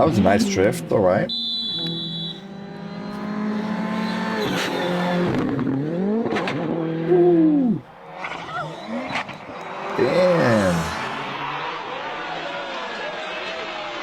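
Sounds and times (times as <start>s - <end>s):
rally car engines revving: 0.0s - 14.0s.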